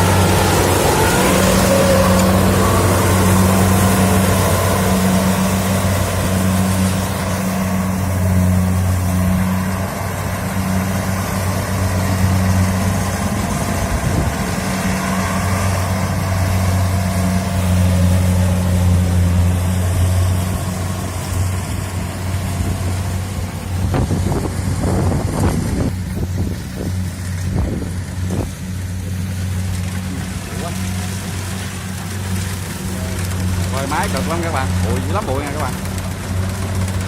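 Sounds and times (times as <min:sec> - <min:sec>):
combine harvester diesel engine: 0:00.0 - 0:37.0.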